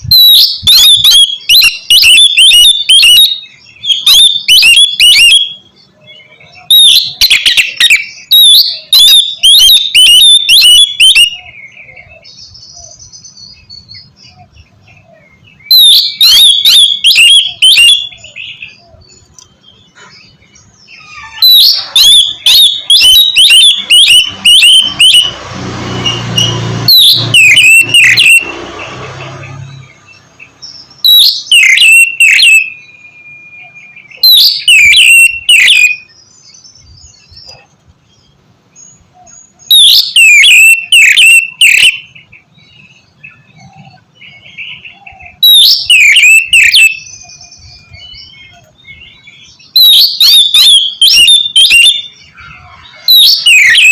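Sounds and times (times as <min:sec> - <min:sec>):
magpie-robin singing: 0:00.0 - 0:25.4, 0:26.0 - 0:28.6, 0:29.2 - 0:53.9.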